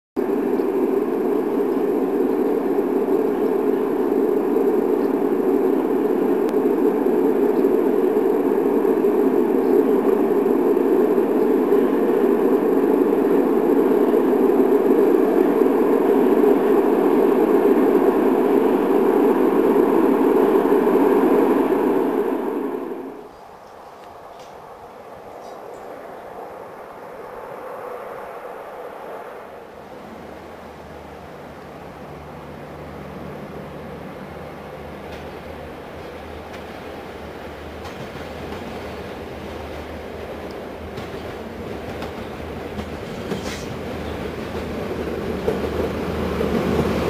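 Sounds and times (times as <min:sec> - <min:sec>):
freight train passing: 0:00.2 - 0:47.0.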